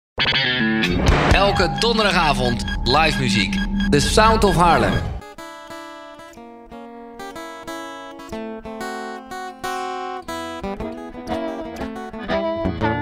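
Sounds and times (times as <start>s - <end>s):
acoustic guitar chords: 0.3s - 13.0s.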